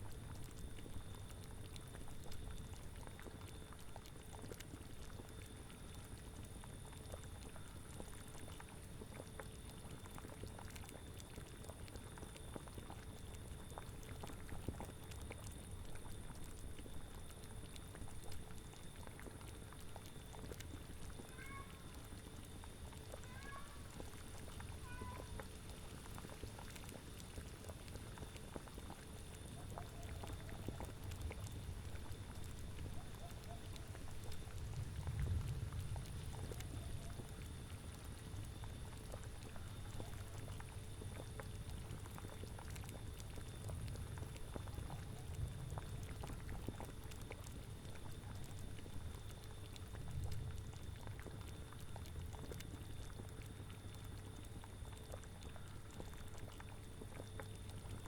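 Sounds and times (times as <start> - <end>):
liquid boiling and bubbling: 0.0 - 58.0.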